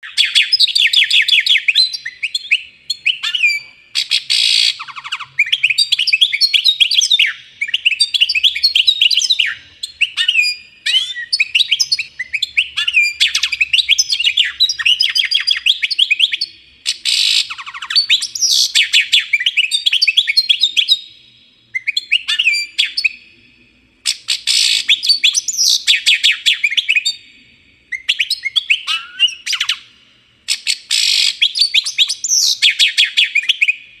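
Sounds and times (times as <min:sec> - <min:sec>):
small birds chirping: 0:00.0 - 0:23.3, 0:24.0 - 0:29.9, 0:30.5 - 0:33.9.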